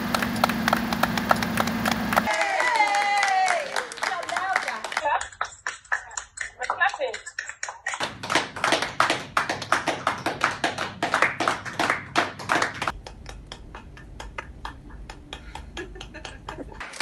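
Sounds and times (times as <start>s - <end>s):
claps through laptop speaker: 0.0s - 17.0s
people clapping: 0.0s - 17.0s.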